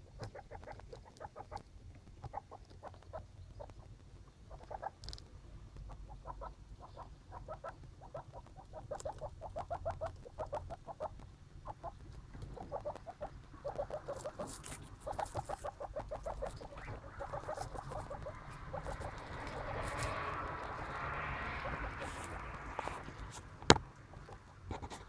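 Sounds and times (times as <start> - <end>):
guinea pigs squeaking: 0.0 - 23.4.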